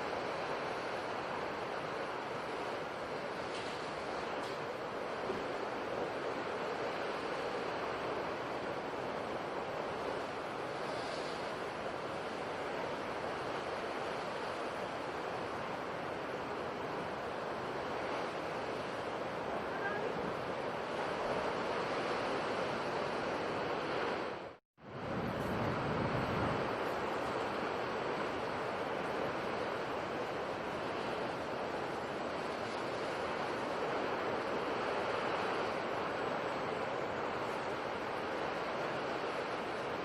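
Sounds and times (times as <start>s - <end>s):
sea surf washing: 0.0s - 40.0s.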